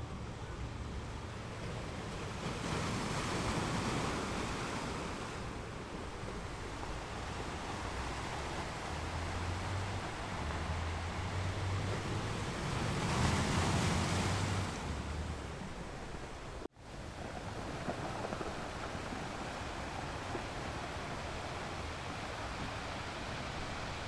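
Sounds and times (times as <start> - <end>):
ocean waves on shore: 0.0 - 24.0.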